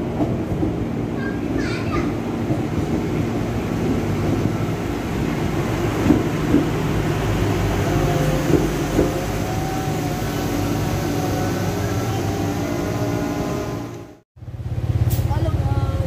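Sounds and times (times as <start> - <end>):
rail car engine hum: 0.0 - 16.0.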